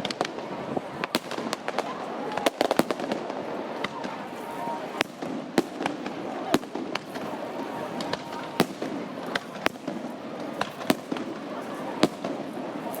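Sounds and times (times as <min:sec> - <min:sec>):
murmur of crowd voices: 0:00.0 - 0:13.0.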